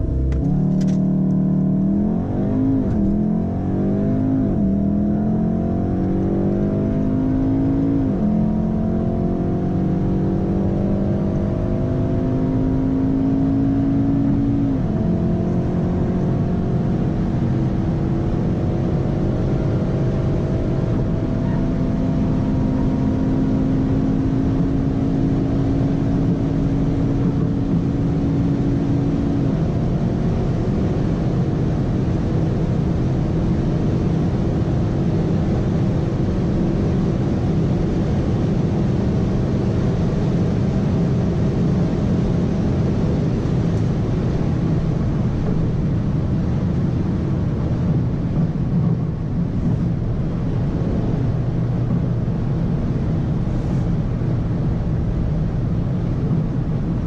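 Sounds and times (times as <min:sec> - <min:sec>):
car engine accelerating: 0:00.0 - 0:57.0
road and wind noise: 0:00.0 - 0:57.0.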